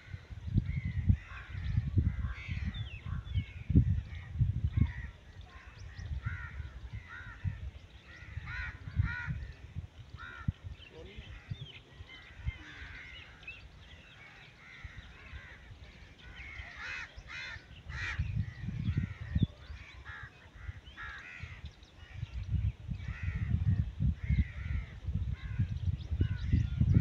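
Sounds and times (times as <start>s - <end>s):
birds calling harshly: 0.0s - 27.0s.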